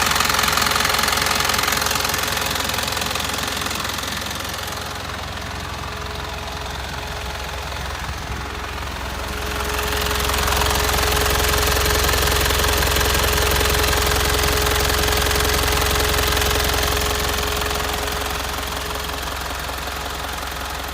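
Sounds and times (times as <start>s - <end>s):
diesel truck engine running: 0.0s - 20.9s.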